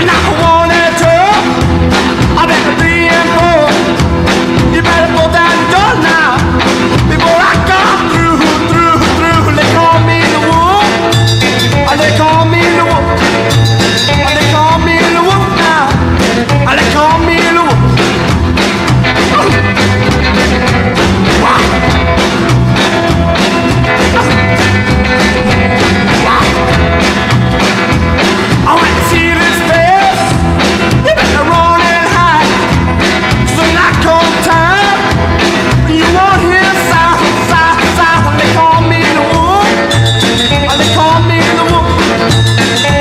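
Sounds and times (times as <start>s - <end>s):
lead melody with bending notes: 0.0s - 43.0s
rockabilly band music: 0.0s - 43.0s.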